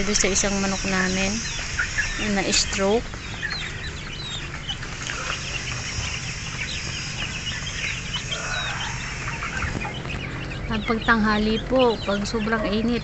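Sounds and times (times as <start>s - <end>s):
chicks peeping: 0.0s - 13.0s
steady low hum: 0.0s - 13.0s.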